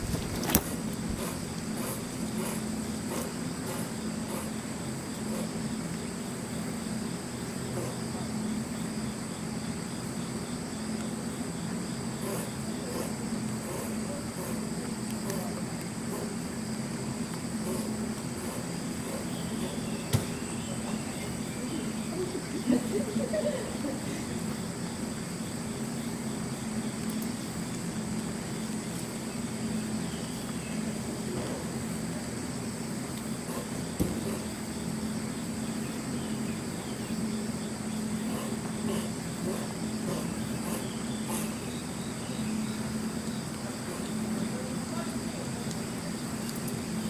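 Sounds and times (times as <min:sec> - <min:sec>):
constant low hum: 0:00.0 - 0:47.0
insects trilling: 0:00.0 - 0:47.0.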